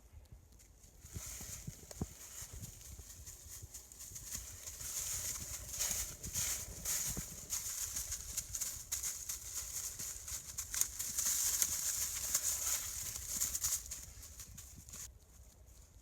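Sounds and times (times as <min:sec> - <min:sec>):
movement through leaf litter: 0:01.0 - 0:15.1.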